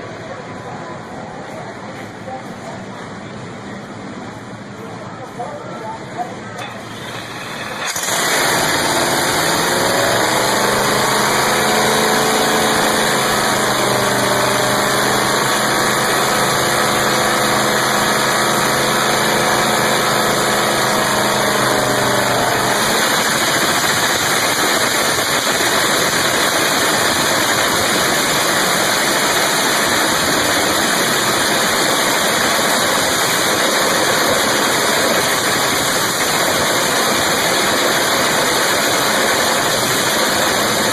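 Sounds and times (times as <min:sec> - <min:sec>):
race car engine running: 0:06.6 - 0:40.9.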